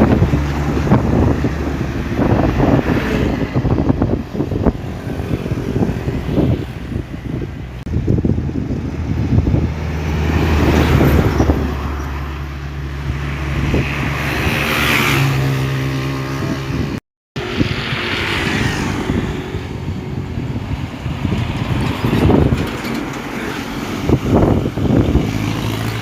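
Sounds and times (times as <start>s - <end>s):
trucks passing hiss: 0.0s - 16.6s, 17.4s - 26.0s
truck engines droning: 0.0s - 26.0s.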